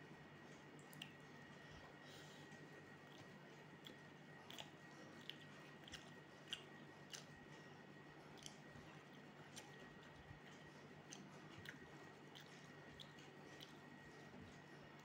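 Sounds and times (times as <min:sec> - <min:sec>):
faint steady hum: 0:00.0 - 0:15.0
close-up chewing: 0:00.6 - 0:15.0.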